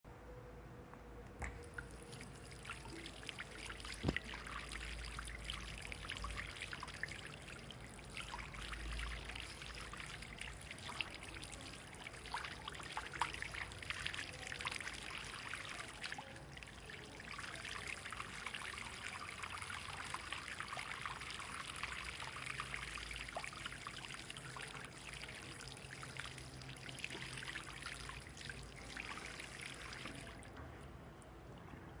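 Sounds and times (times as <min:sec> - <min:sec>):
water pouring and trickling: 0:01.4 - 0:32.0.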